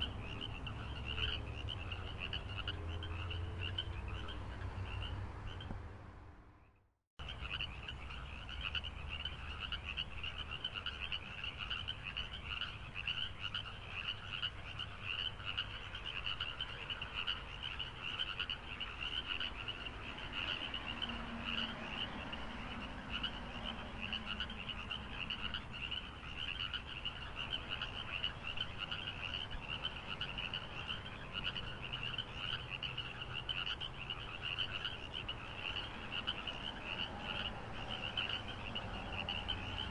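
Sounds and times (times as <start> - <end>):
frogs chorus trilling: 0.0 - 5.8, 7.2 - 39.9.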